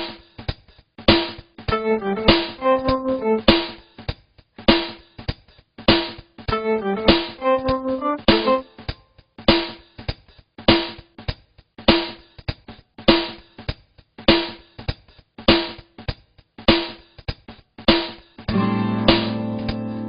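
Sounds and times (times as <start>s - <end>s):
drum kit beat: 1.1s - 10.1s, 10.7s - 20.0s.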